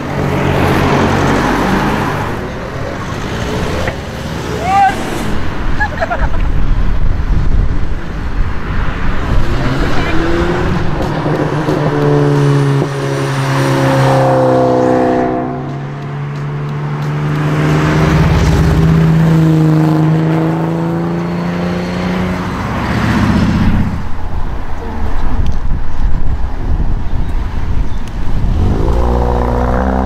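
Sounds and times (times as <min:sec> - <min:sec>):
car engines driving past: 0:00.0 - 0:25.7, 0:27.4 - 0:30.0.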